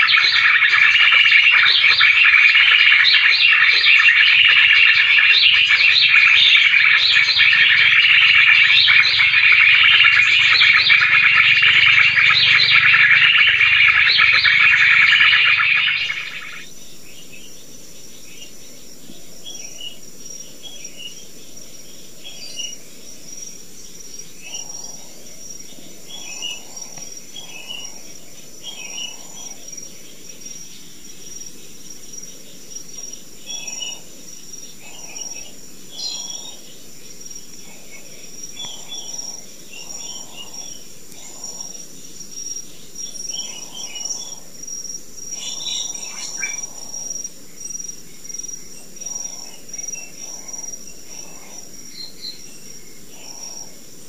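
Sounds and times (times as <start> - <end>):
bird chirps: 0.0 - 44.6, 45.2 - 53.8
insect drone: 0.0 - 54.0.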